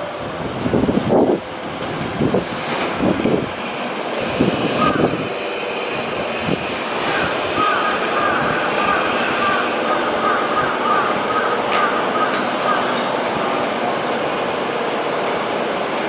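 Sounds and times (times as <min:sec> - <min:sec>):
subway train rumble and hiss: 0:00.0 - 0:16.0.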